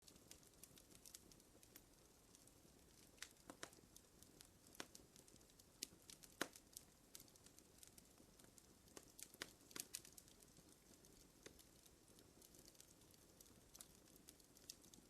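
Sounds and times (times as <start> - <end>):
fire crackling faintly: 0.0 - 15.0.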